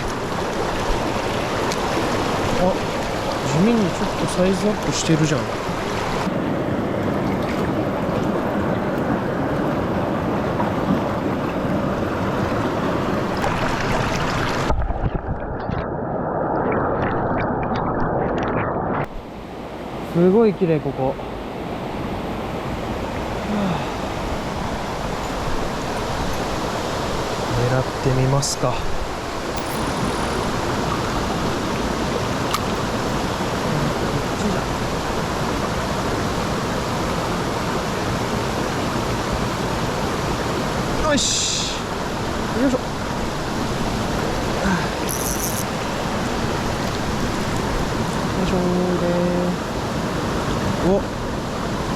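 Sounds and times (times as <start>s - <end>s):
stream rushing: 0.0s - 14.8s, 18.8s - 51.9s.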